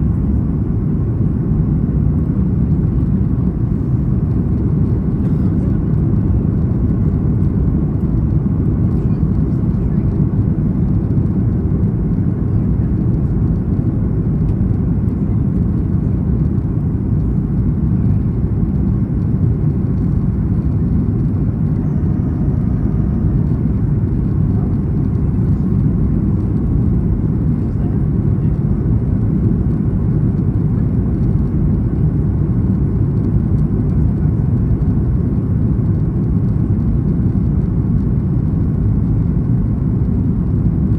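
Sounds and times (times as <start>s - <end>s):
airplane cabin airflow and engine noise: 0.0s - 40.9s.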